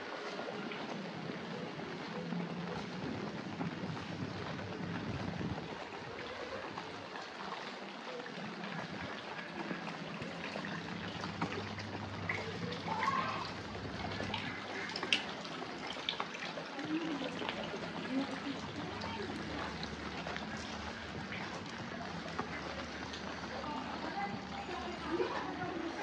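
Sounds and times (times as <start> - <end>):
water trickling and dripping: 0.0 - 26.0.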